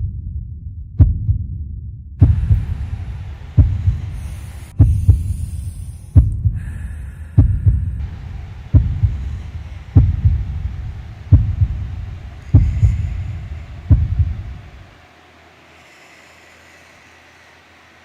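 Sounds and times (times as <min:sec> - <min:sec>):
slow heartbeat thumps: 0:00.0 - 0:14.9.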